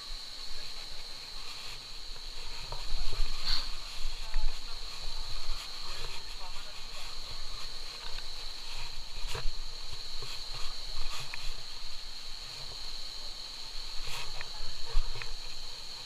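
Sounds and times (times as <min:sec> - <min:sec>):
high-pitched insect drone: 0:00.0 - 0:16.0
low irregular thumps: 0:00.0 - 0:16.0.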